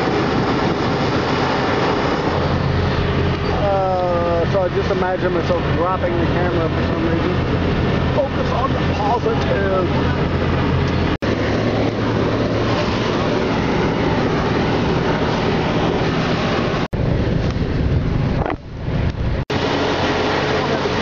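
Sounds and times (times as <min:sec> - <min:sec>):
bus engine hum: 0:00.0 - 0:21.0
road noise: 0:00.0 - 0:21.0.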